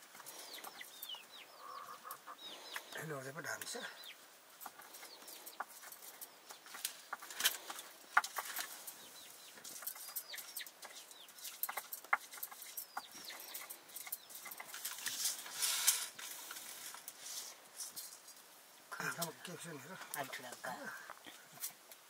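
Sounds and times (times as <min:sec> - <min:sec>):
chickens clucking and chirping: 0:00.0 - 0:22.0
rustle: 0:00.0 - 0:22.0.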